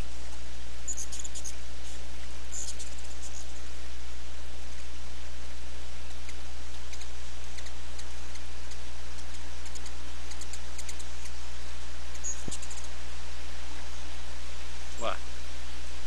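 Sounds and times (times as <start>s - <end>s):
hummingbirds chipping: 0.0s - 16.0s
steady low hum: 0.0s - 16.0s.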